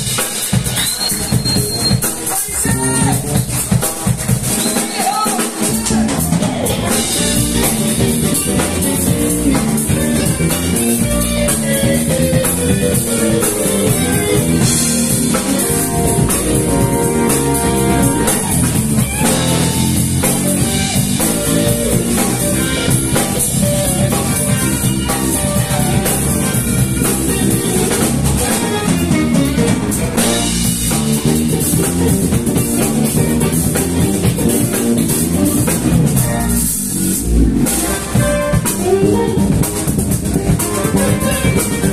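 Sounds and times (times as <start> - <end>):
live instrumental rock band: 0.0 - 41.9.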